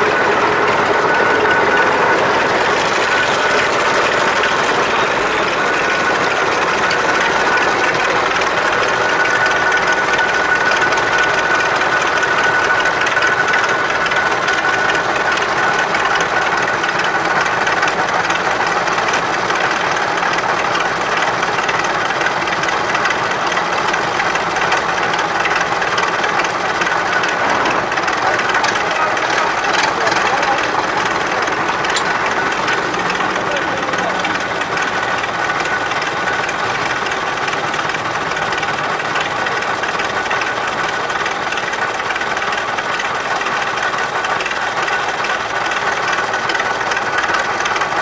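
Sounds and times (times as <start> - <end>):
tractor diesel engine idling: 0.0 - 48.0.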